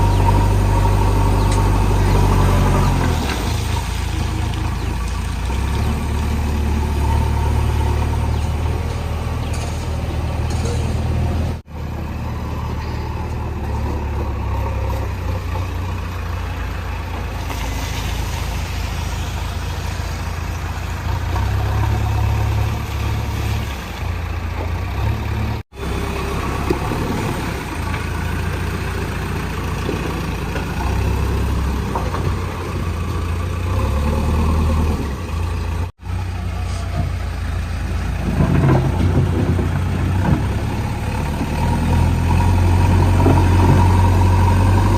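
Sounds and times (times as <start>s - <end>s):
backhoe diesel engine rumbling: 0.0s - 44.9s.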